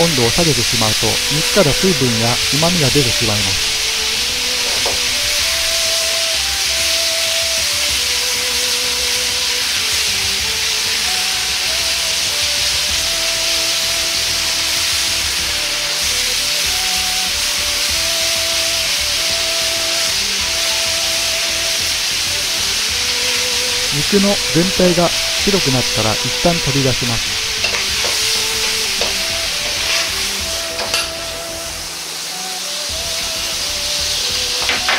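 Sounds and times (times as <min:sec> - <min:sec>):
pork sizzling in a wok: 0:00.0 - 0:34.9
soft melody of held notes: 0:00.0 - 0:34.9.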